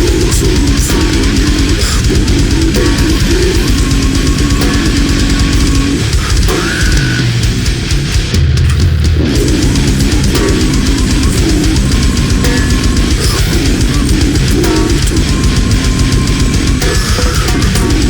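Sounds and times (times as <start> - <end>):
death metal song: 0.0 - 18.0.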